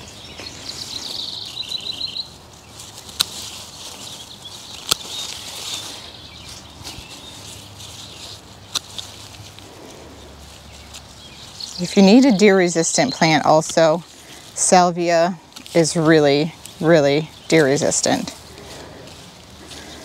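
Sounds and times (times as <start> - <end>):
birds chirping: 0.0 - 20.0
pruners snipping stems: 2.6 - 20.0.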